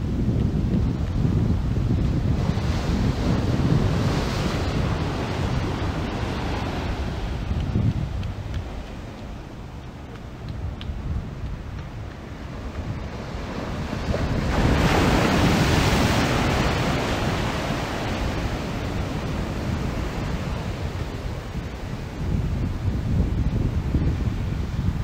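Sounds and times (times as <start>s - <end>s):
ocean surf breaking: 0.0s - 25.0s
wind rumbling on microphone: 0.0s - 25.0s.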